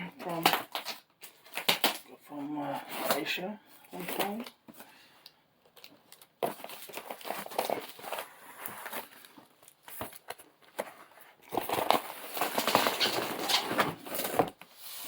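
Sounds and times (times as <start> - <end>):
cardboard and plastic crinkling: 0.1 - 4.8, 5.6 - 15.0.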